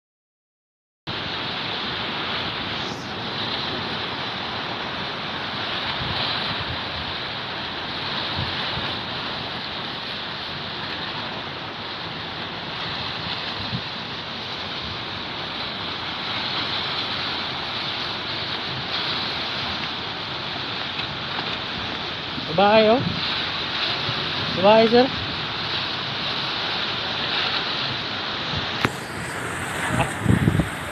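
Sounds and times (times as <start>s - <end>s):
boat wake: 1.1s - 30.9s
open sea wash: 1.1s - 30.9s
wind over microphone: 1.1s - 30.9s.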